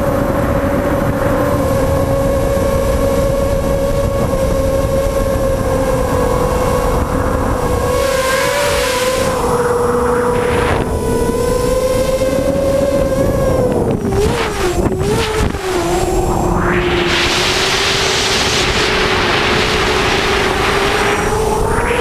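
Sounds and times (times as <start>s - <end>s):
drone motors buzzing whine: 0.0s - 22.0s
wind rushing over microphone: 0.0s - 22.0s.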